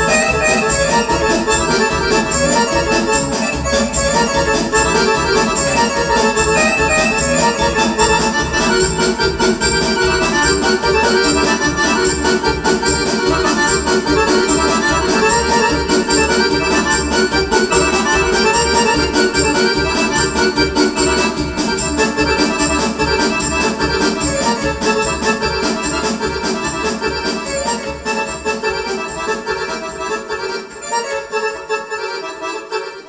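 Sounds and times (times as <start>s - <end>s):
steady low beat: 0.0s - 30.8s
organ-like keyboard melody: 0.0s - 33.0s.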